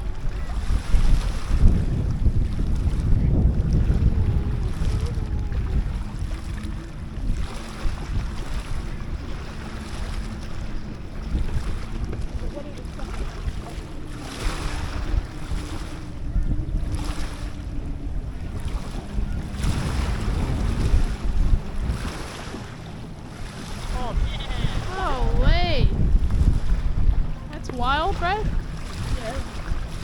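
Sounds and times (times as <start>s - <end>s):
waves washing in: 0.0s - 30.0s
wind buffeting microphone: 0.0s - 30.0s.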